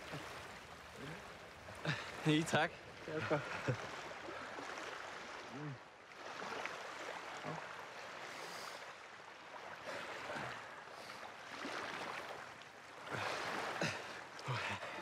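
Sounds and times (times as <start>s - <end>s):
small waves washing on shore: 0.0s - 15.0s.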